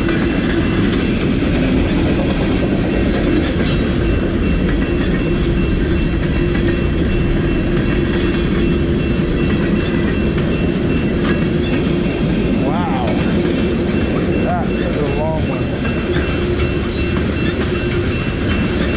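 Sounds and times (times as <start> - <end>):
freight train rumbling on rails: 0.0 - 18.9
wheels clicking over rail joints: 0.0 - 18.9.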